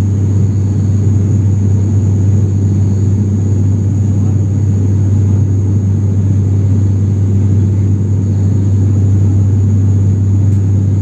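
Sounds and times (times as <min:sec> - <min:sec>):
aircraft engine drone in cabin: 0:00.0 - 0:11.0.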